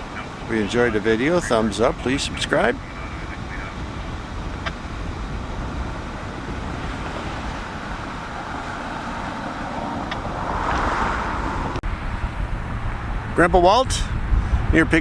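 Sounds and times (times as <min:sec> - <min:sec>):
low rumble of vehicle noise: 0:00.0 - 0:15.0.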